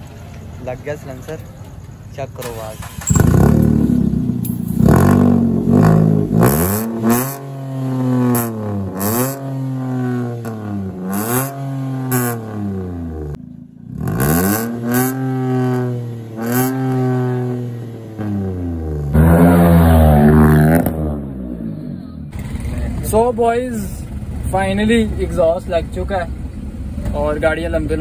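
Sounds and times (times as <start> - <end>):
car engine revving: 2.7 - 28.0.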